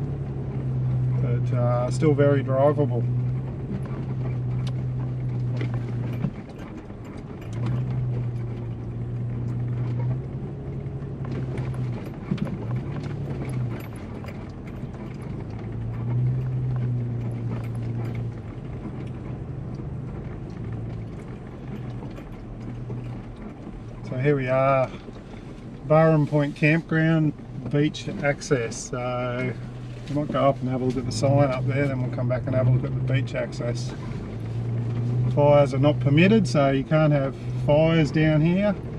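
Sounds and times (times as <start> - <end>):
knocks and rattles over bumps: 0.0 - 38.9
vehicle engine hum: 0.0 - 38.9.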